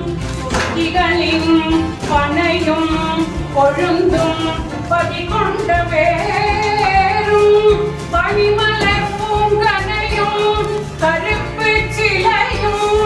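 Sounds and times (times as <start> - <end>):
steady bass beat: 0.0 - 13.0
woman singing: 0.0 - 13.0.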